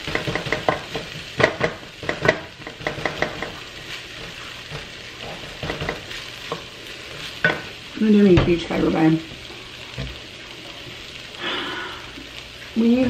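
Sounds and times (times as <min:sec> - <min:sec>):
butter and garlic sizzling: 0:00.0 - 0:13.0.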